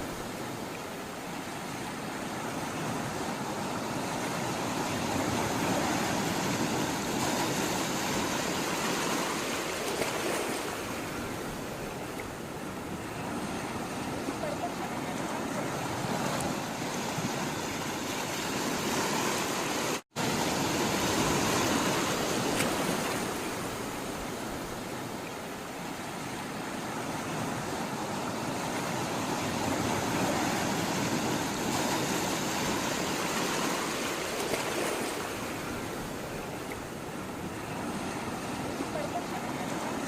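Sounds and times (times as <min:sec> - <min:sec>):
sea water rushing: 0:00.0 - 0:40.0.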